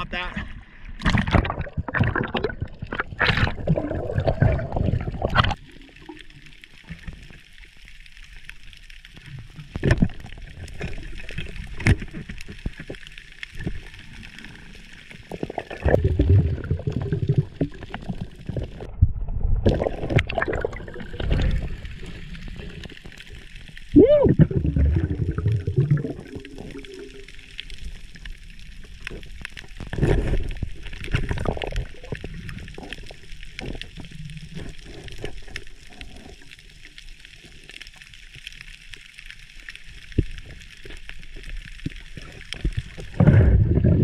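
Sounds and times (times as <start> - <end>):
underwater water sloshing: 0.2 - 44.0.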